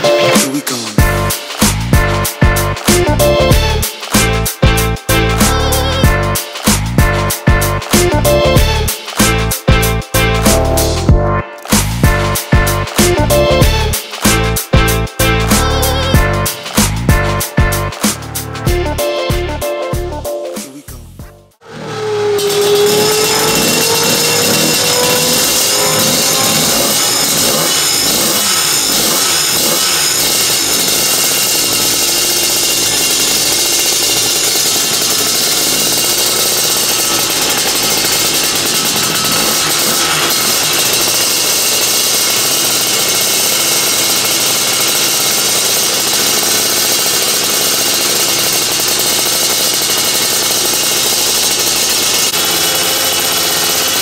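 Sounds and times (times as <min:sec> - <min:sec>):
two-stroke kart engine running: 0:00.0 - 0:20.2, 0:21.0 - 0:54.0.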